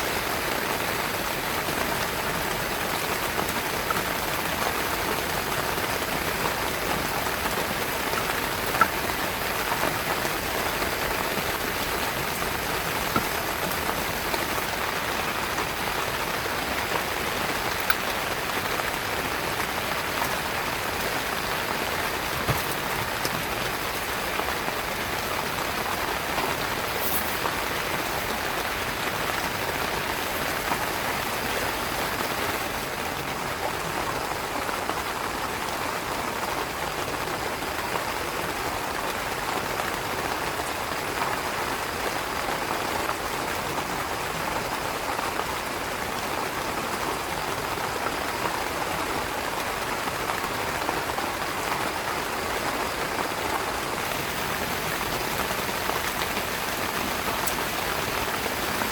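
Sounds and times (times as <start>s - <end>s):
heavy rain on a tent: 0.0s - 58.9s.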